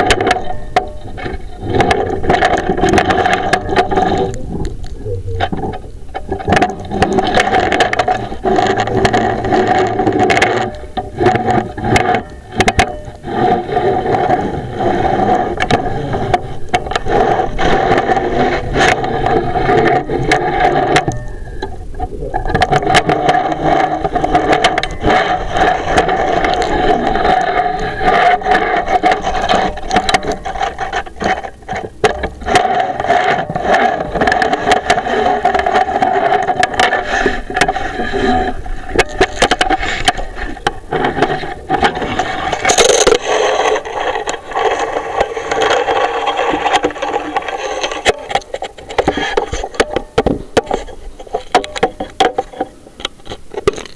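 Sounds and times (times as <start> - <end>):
camera scraping inside flue: 0.0 - 53.9.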